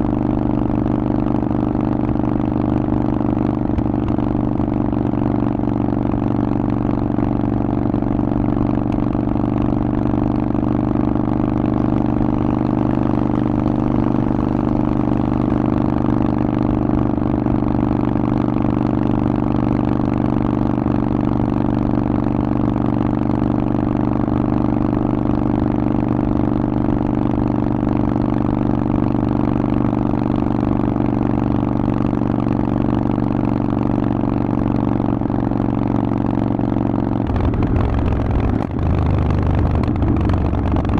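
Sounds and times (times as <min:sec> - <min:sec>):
motorcycle engine running steadily: 0:00.0 - 0:40.9.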